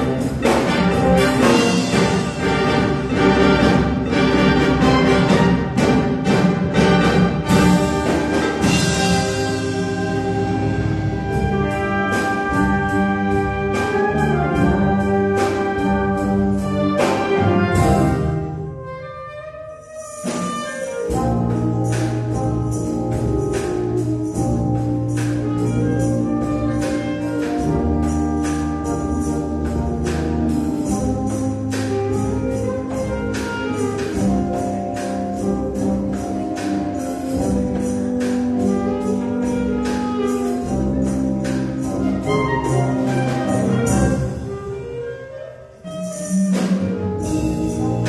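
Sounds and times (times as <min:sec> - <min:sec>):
percussion beat: 0:00.0 - 0:19.0, 0:19.8 - 0:48.0
wind band playing chords: 0:00.0 - 0:48.0.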